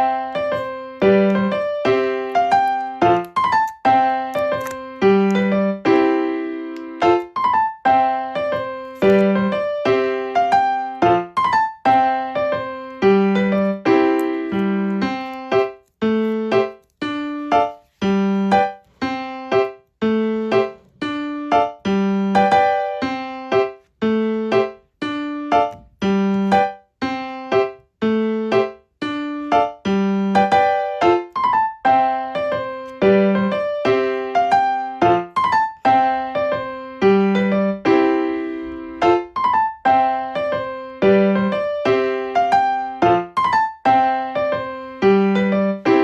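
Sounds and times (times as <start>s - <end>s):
light piano tune: 0.0s - 46.0s.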